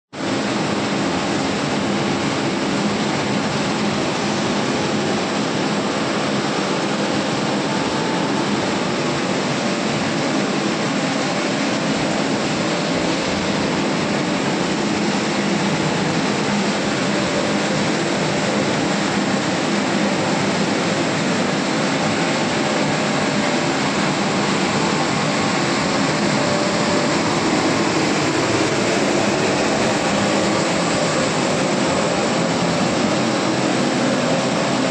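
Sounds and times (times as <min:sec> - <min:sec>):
loud steady machinery noise: 0:00.1 - 0:34.9.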